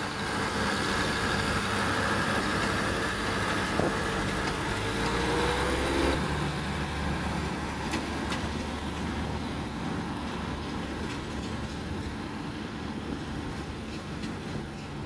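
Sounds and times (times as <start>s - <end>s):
diesel railcar engine: 0.0s - 15.0s
rumble of rail traffic: 0.0s - 15.0s.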